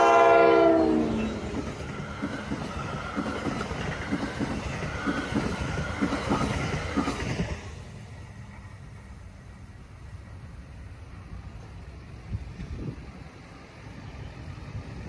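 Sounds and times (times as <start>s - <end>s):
train coaches rumbling past: 0.0s - 15.0s.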